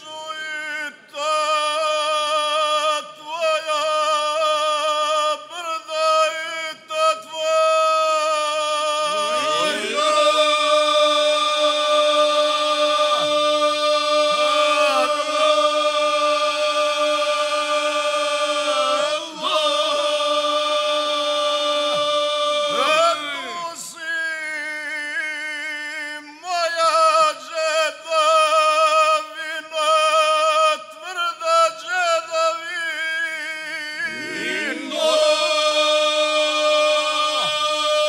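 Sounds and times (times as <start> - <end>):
men singing a cappella in harmony: 0.0 - 38.0.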